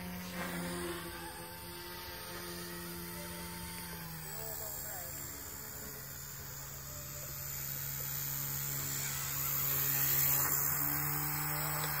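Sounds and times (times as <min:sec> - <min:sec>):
model helicopter rotor hum: 0:00.0 - 0:12.0.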